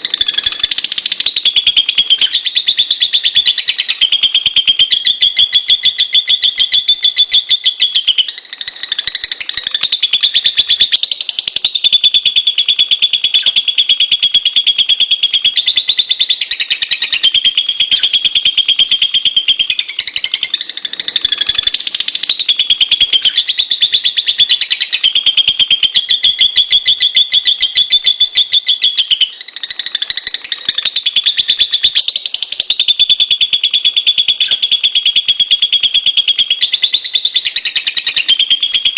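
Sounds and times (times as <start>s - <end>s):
lovebird chattering: 0.0s - 38.9s.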